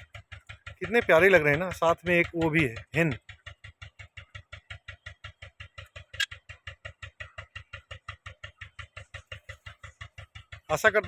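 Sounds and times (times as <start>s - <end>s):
rapid even ticking: 0.0s - 11.0s.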